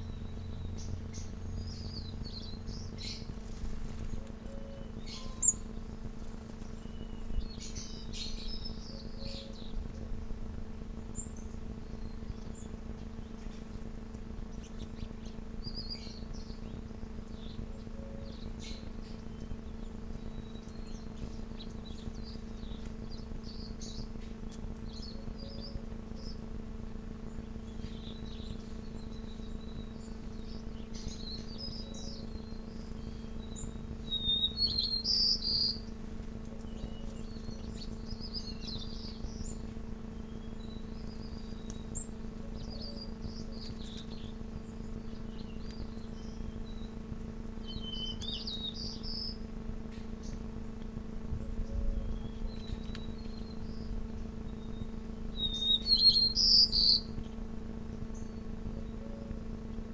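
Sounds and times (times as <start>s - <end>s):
songbirds chirping: 0.0s - 59.9s
steady low hum: 0.0s - 59.9s.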